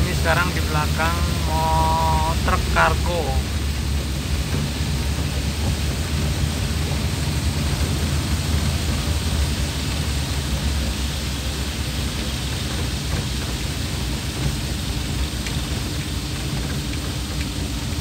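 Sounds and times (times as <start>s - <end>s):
vehicle driving on wet road: 0.0s - 18.0s.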